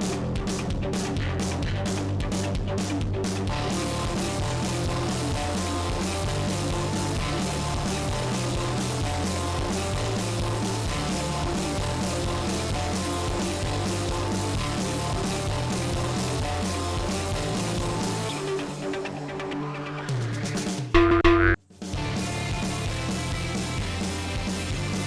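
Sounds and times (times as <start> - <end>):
rock music with electric guitar: 0.0 - 25.0.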